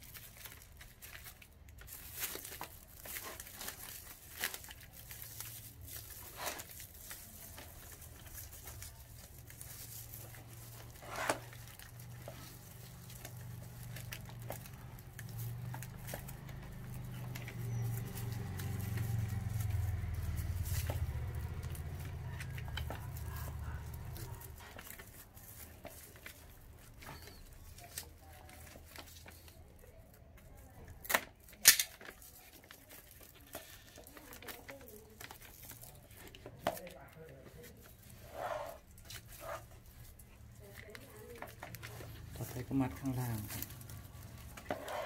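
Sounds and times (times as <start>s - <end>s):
rustling and handling: 0.0s - 45.0s.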